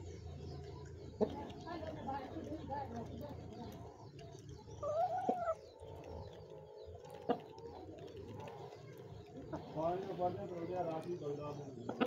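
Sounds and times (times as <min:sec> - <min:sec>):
hens feeding: 0:00.0 - 0:12.0.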